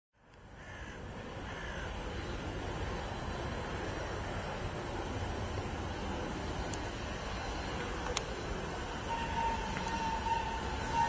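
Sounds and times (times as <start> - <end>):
steady high hiss: 0.2 - 11.0
diesel locomotive engine rumble: 1.1 - 11.0.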